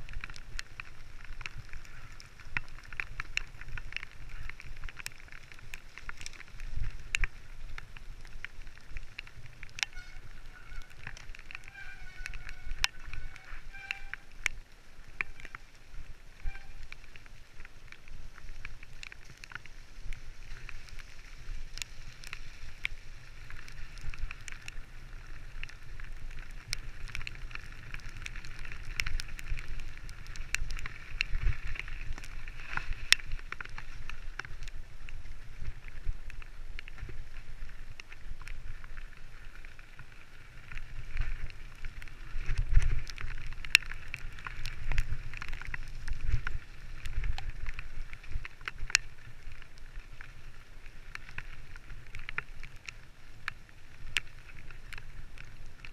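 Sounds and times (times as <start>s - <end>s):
bike clicks and rattles: 0.0s - 55.9s
bike tyres rolling over ground: 0.0s - 55.9s
wind rumble on microphone: 0.0s - 55.9s.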